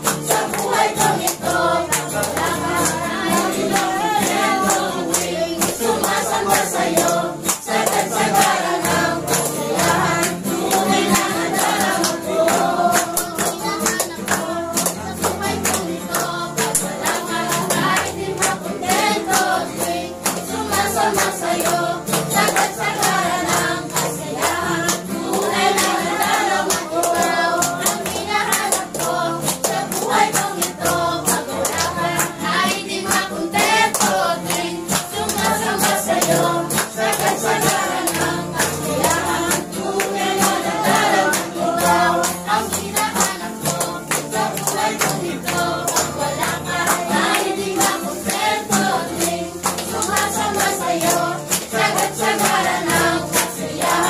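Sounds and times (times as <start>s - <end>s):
congregation singing in unison: 0.0s - 54.0s
hands clapping a steady beat: 0.0s - 54.0s.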